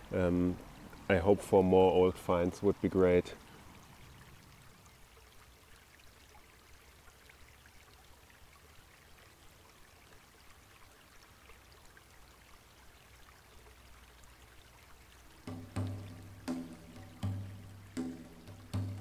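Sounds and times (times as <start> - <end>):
faint trickle of stream water: 0.0 - 19.0.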